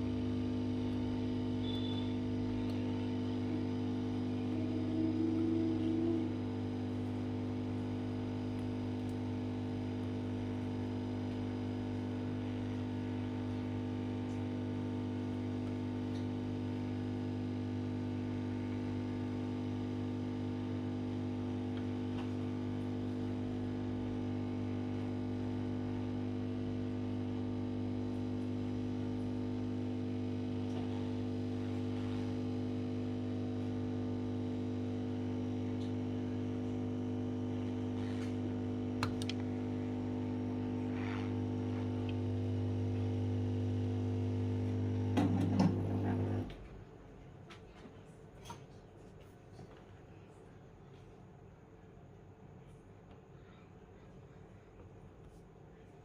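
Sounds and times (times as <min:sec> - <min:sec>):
amplifier mains hum: 0:00.0 - 0:56.0.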